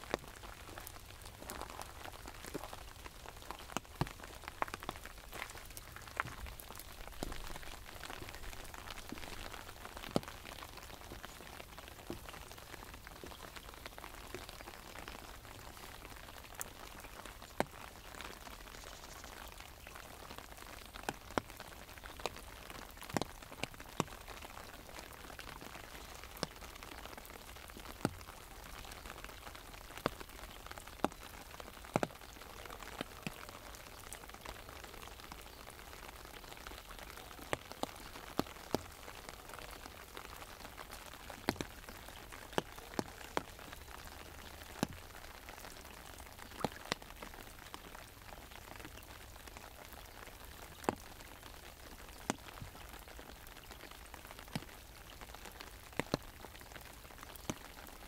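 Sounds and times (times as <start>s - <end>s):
large drops ticking on canopy: 0.0s - 58.0s
rain pattering on umbrella: 0.0s - 58.0s.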